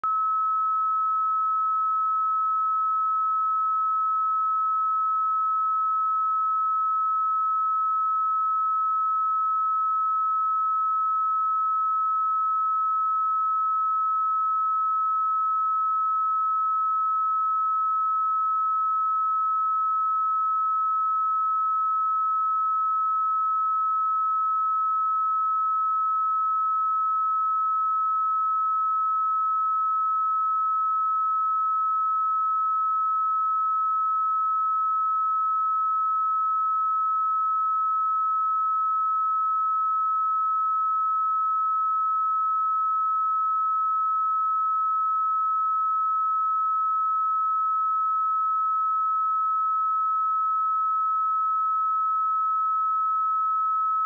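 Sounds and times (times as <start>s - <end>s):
sine wave test tone: 0.0s - 54.0s.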